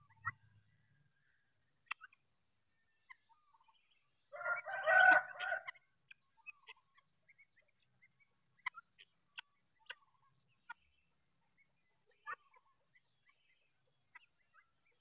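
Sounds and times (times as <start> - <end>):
guineafowl cackling: 0.0 - 2.2, 3.0 - 15.0.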